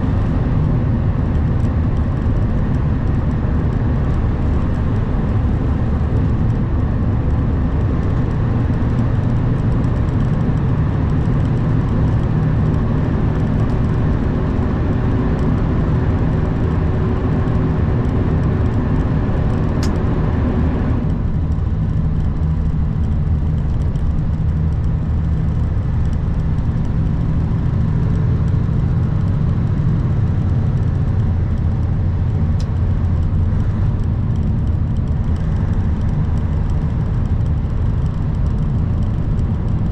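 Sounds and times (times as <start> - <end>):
diesel engine drone: 0.0 - 39.9
road and wind noise: 0.0 - 39.9.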